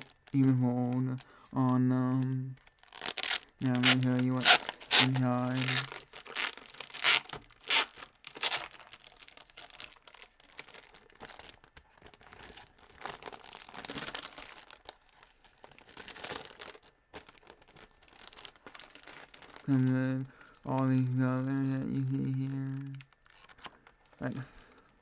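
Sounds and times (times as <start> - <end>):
plastic wrapper crinkling: 0.0 - 25.0.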